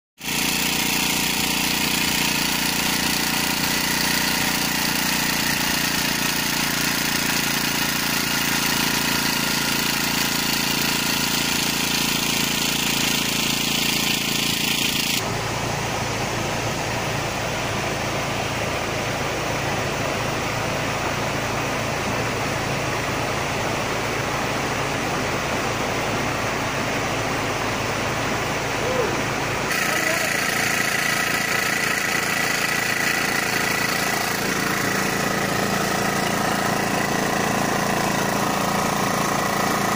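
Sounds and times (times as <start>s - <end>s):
generator engine running: 0.2s - 39.9s.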